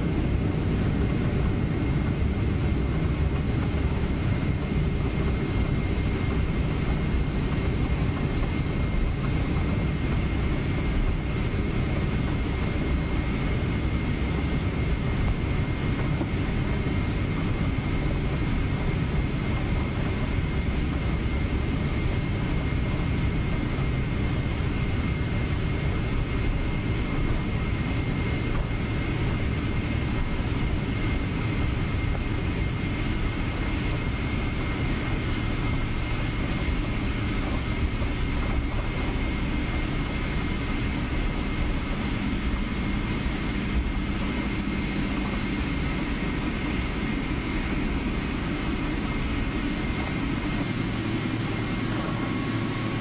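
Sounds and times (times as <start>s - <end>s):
jet cabin rumble: 0.0s - 53.0s.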